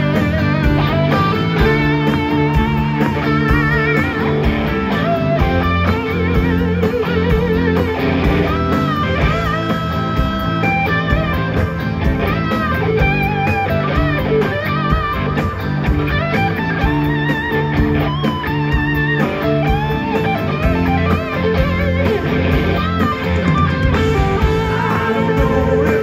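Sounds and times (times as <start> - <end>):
blues-rock band playing: 0.0 - 26.0
electric guitar bending notes: 0.0 - 26.0.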